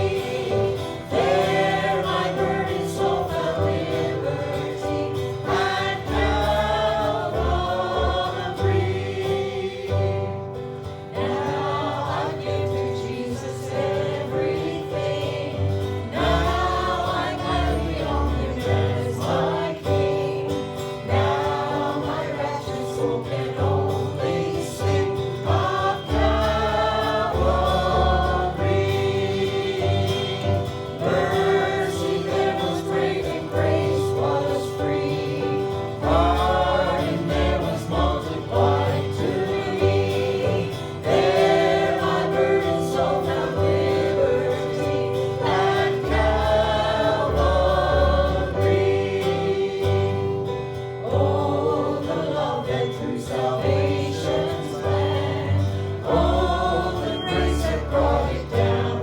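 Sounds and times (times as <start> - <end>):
group singing gospel song: 0.0 - 59.0
long-held chord tone: 0.0 - 59.0.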